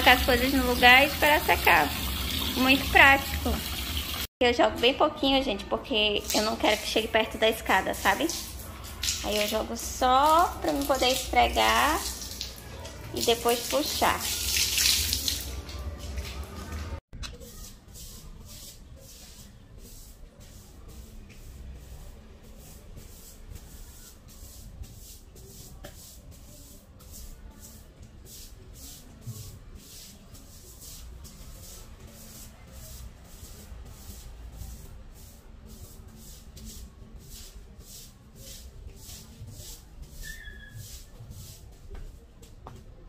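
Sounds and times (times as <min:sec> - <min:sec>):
broom scrubbing wet tile floor: 0:00.0 - 0:04.3, 0:06.1 - 0:43.0.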